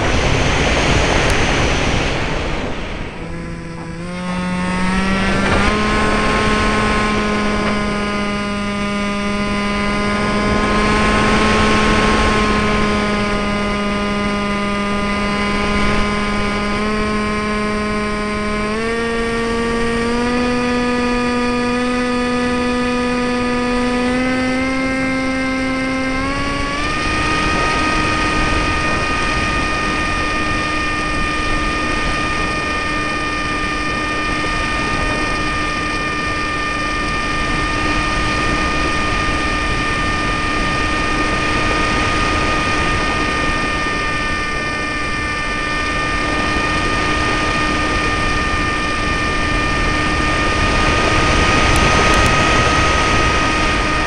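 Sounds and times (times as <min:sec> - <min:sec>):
electric motor and propeller whining: 0:00.0 - 0:54.0
wind rushing over microphone: 0:00.0 - 0:54.0.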